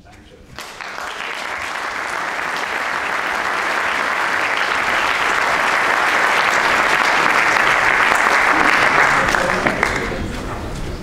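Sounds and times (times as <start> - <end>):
audience applauding: 0.6 - 10.5.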